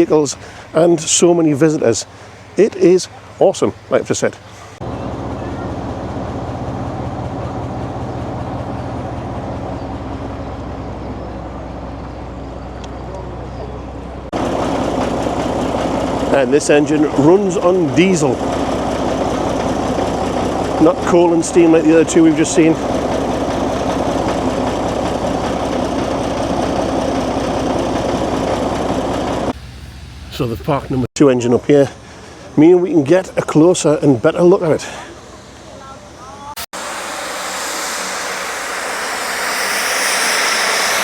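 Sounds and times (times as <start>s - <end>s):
diesel locomotive engine idling: 0.0s - 41.0s.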